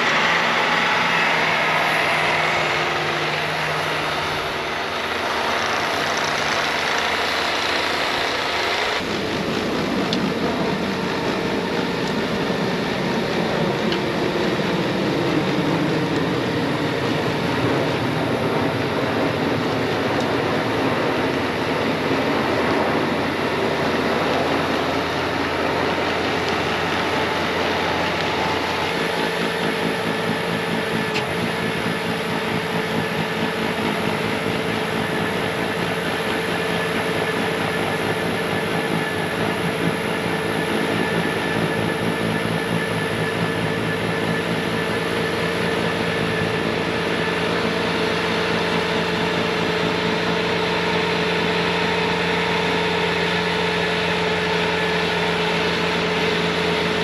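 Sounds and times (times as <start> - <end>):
diesel engine running: 0.0 - 57.0
steady whine: 0.0 - 57.0.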